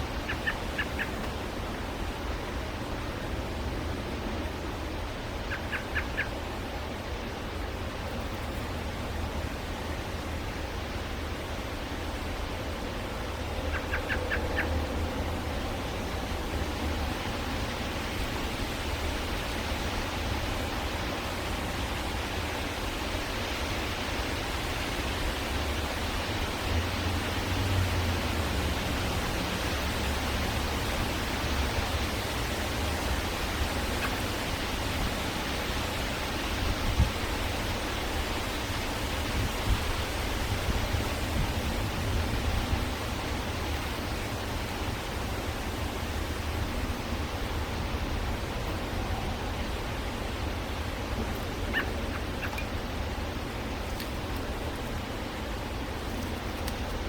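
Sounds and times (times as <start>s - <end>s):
outdoor hiss and rumble: 0.0s - 57.0s.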